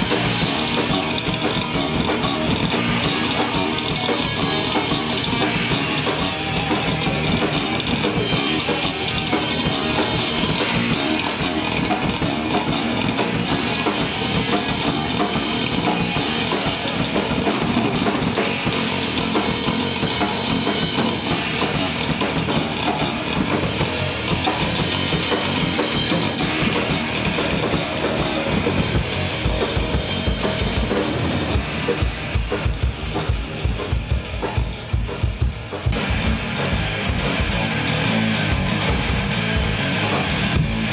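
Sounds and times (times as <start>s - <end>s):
fast bass drum strokes: 0.0s - 40.9s
rock band playing live: 0.0s - 40.9s.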